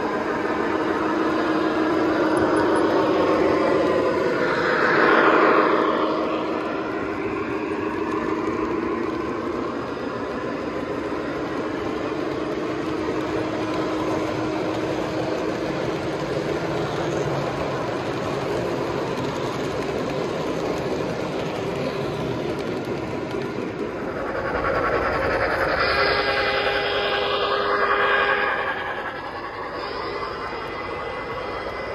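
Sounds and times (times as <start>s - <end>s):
model train running: 0.0s - 31.9s
steady hum: 0.0s - 31.9s.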